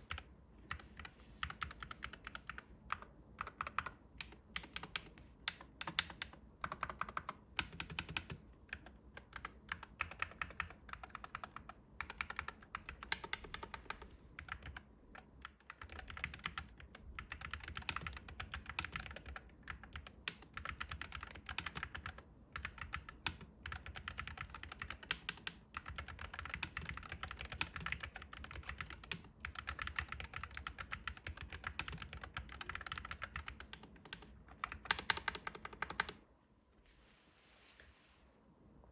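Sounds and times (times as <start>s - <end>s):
fast typing on mechanical keyboard: 0.0s - 36.2s.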